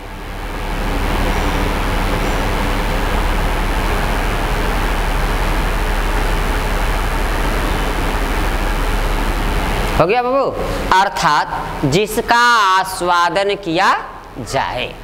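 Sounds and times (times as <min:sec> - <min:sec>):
hiss-like background noise: 0:00.0 - 0:15.0
low mains hum: 0:00.0 - 0:15.0.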